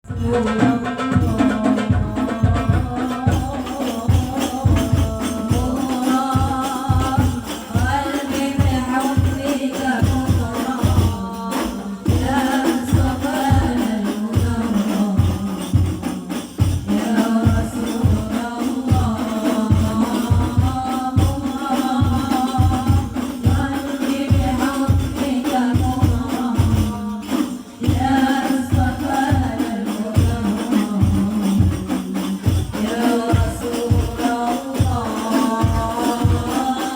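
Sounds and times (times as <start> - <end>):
steady drum beat: 0.0 - 36.9.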